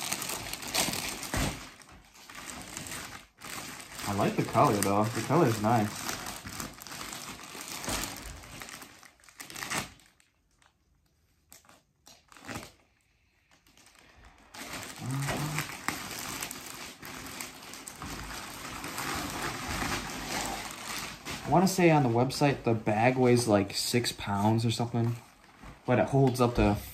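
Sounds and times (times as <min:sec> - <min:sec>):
plastic wrap crinkling: 0:00.0 - 0:26.9.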